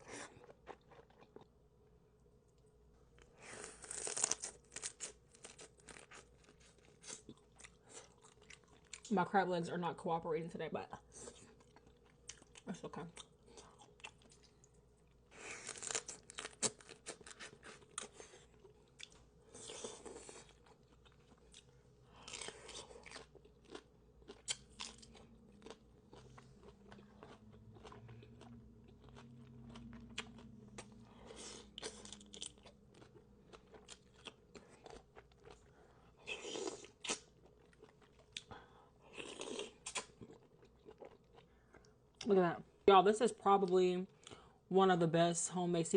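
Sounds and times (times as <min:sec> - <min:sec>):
chewing: 0:02.6 - 0:09.1, 0:11.2 - 0:38.6, 0:39.2 - 0:42.3.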